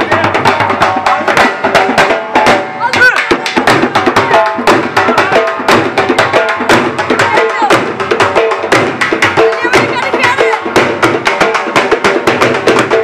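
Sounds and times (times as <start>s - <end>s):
dhol drumming: 0.0s - 13.0s.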